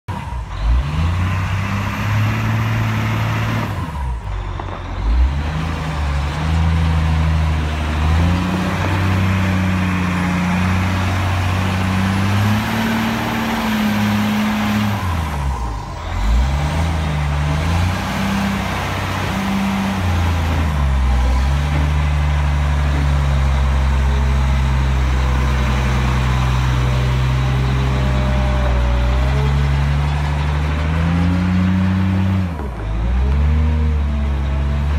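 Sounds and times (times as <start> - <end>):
diesel engine revving: 0.1 - 34.9.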